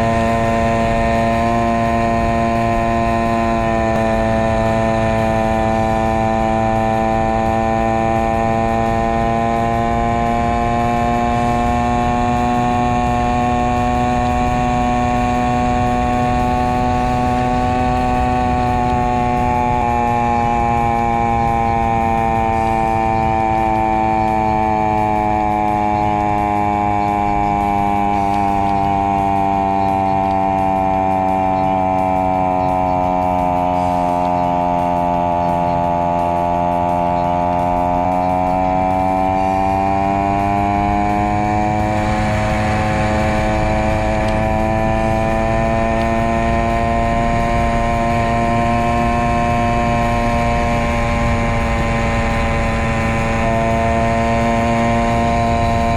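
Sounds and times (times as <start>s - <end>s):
motorcycle engine running under load: 0.0s - 55.9s.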